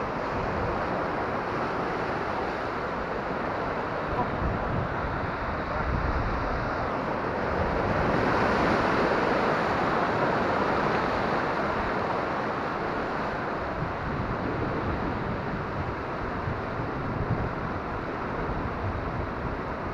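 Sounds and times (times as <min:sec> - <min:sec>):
ocean surf on rocks: 0:00.0 - 0:19.9
wind rumbling on microphone: 0:00.0 - 0:19.9.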